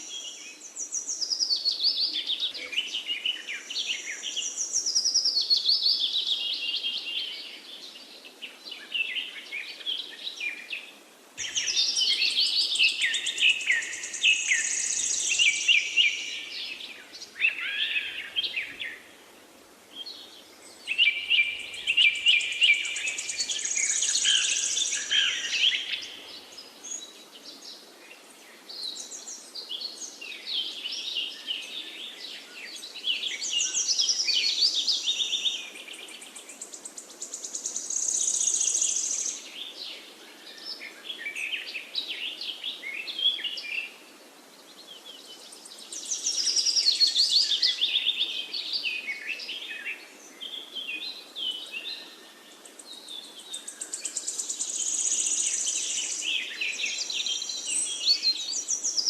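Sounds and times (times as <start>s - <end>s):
songbirds chirping and singing: 0.0s - 19.1s, 19.9s - 44.0s, 44.6s - 59.0s
faint background hiss: 0.0s - 59.0s.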